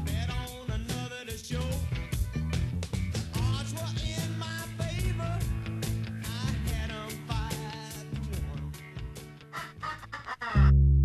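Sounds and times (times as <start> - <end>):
bass-heavy background music: 0.0 - 11.0.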